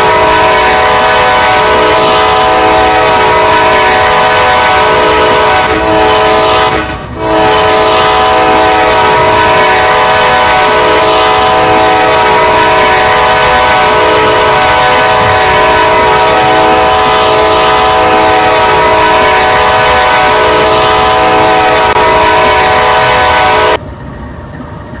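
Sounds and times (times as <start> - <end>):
locomotive air horn chord: 0.0 - 23.8
locomotive rumble: 0.0 - 25.0.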